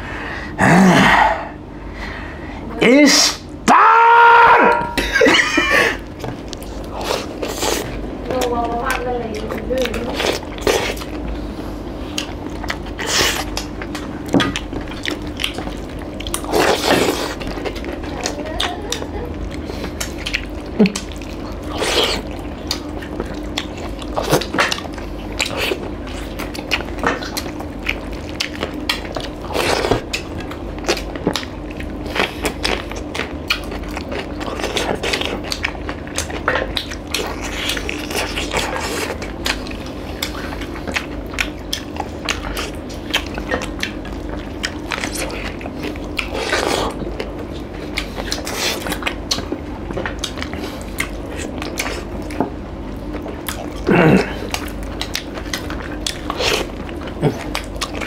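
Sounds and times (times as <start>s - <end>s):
steady low hum: 0.0s - 58.0s
wet chewing and smacking: 4.7s - 58.0s.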